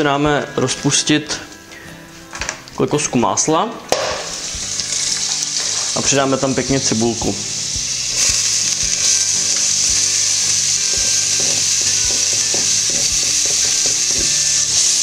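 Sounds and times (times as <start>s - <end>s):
onion sizzling in a pot: 2.1s - 15.0s.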